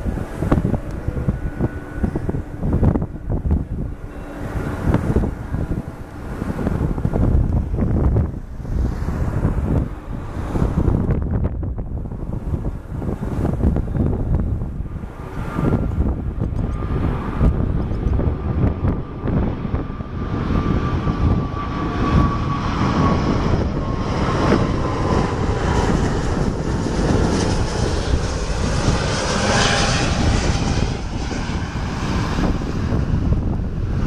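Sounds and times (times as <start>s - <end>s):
jet engines rumbling and whining: 0.0s - 34.0s.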